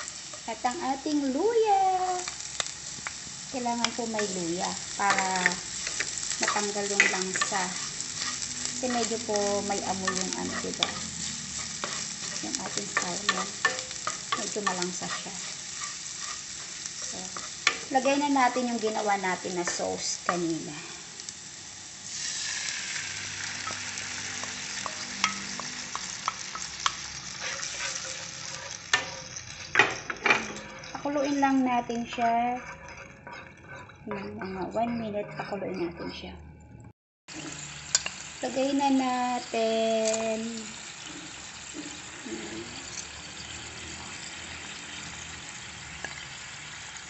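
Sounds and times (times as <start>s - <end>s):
sauce sizzling in a hot pan: 0.0s - 35.3s, 37.3s - 47.0s.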